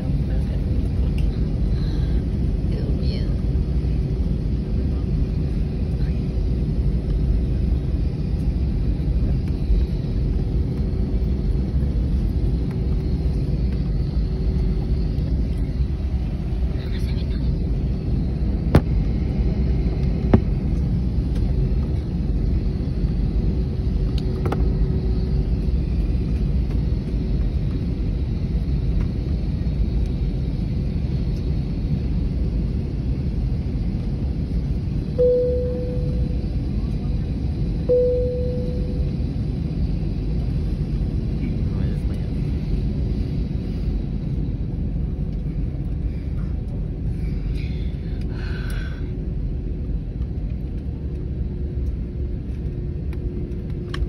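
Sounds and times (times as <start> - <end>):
jet engines rumbling: 0.0 - 54.0
steady hum: 0.0 - 54.0.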